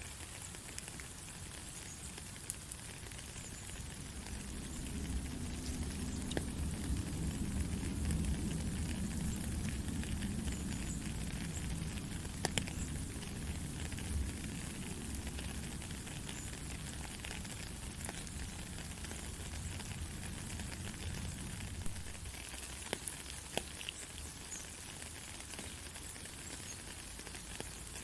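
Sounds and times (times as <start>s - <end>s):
sharp clicks of raindrops: 0.0s - 28.0s
heavy rain falling: 0.1s - 28.0s.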